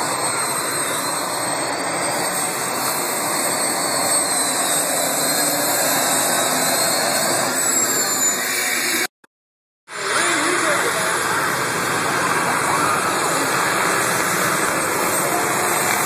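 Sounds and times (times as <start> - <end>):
tractor engine roaring: 0.0 - 9.1, 9.9 - 16.0.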